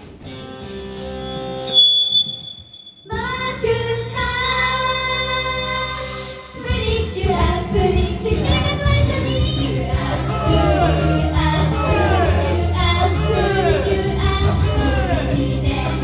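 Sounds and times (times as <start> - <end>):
women singing pop song: 3.1 - 16.0.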